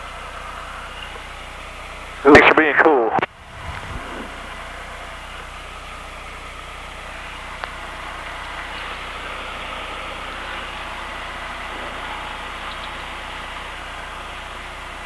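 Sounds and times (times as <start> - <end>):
piston aircraft engine idling: 0.0 - 15.0.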